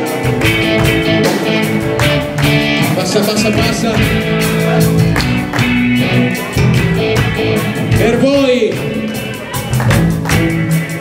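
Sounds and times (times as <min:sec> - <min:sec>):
drum kit beat: 0:00.0 - 0:11.0
electric bass: 0:00.0 - 0:11.0
electric guitar: 0:00.0 - 0:11.0.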